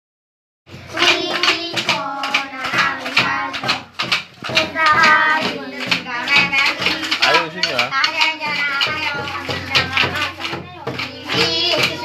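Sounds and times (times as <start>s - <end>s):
children singing a carol: 0.7s - 12.0s
sticks striking plastic tub: 0.7s - 12.0s
plastic bottle shaker: 0.9s - 12.0s.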